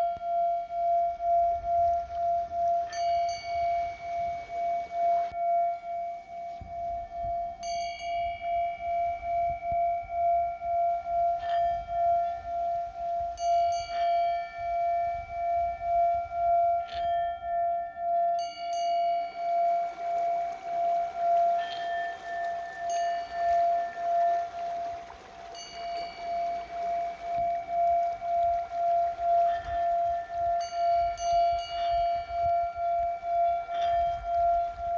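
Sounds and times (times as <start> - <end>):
singing bowl pulsing tone: 0.0 - 34.9
singing bowls struck ringing: 0.0 - 34.9.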